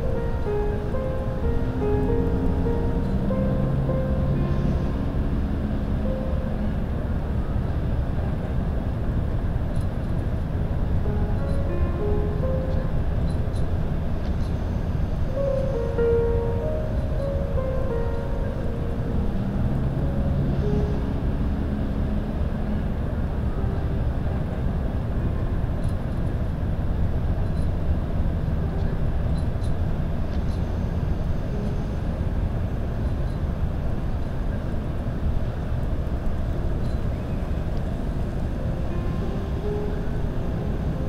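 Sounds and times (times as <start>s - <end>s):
distant vehicles and machinery hum: 0.0s - 41.0s
faint music notes: 0.0s - 41.0s
low outdoor rumble: 0.0s - 41.0s.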